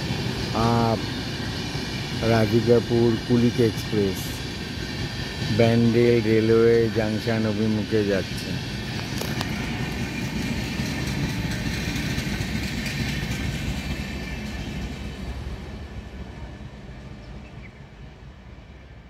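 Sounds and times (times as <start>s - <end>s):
train coaches rumbling on rails: 0.0s - 19.0s.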